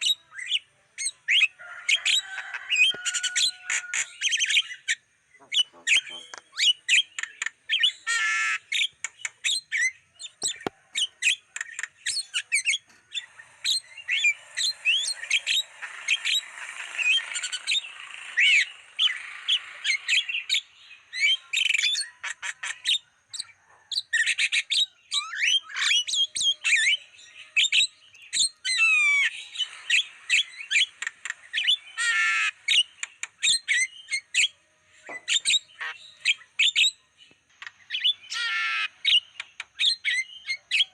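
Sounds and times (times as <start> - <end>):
myna bird calling: 0.0 - 40.9.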